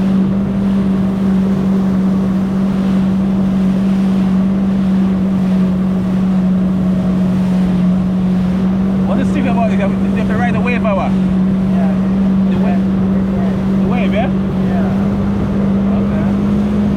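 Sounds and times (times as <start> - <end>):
jet ski engine running: 0.0 - 16.9
wind rushing over microphone: 0.0 - 16.9.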